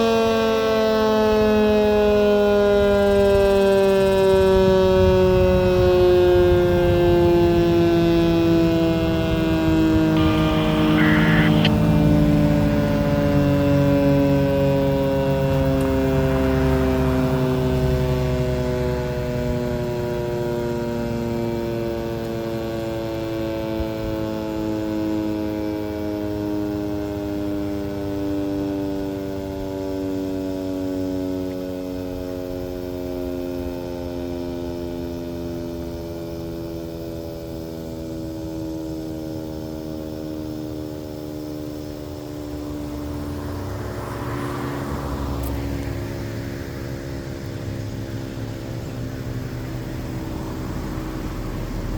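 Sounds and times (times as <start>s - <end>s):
two-tone siren winding down: 0.0s - 51.9s.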